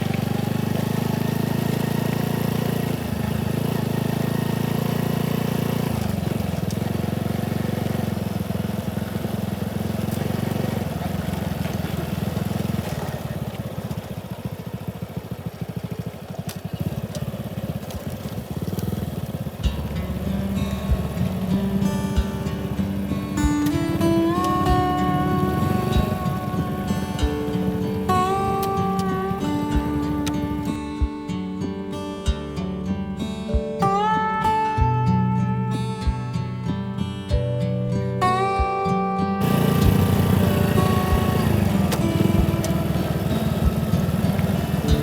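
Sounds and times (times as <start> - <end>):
motorcycle engine running: 0.0 - 33.8, 37.3 - 45.0.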